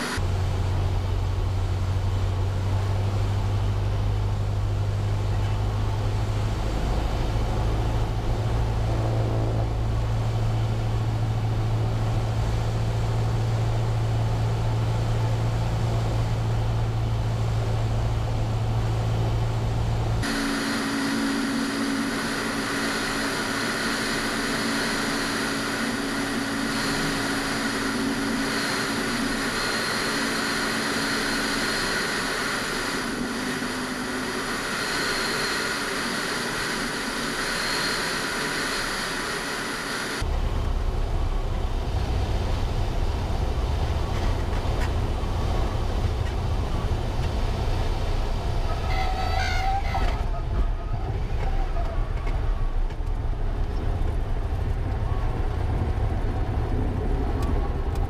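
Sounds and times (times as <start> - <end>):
aircraft engine drone in cabin: 0.0 - 58.0
aircraft engine drone outside: 0.0 - 58.0.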